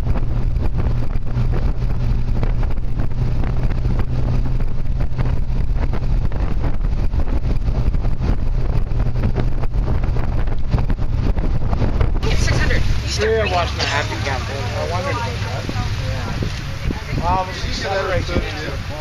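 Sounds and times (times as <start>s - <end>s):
car engine droning: 0.0s - 19.0s
road noise: 0.0s - 19.0s
wind buffeting microphone: 0.0s - 19.0s.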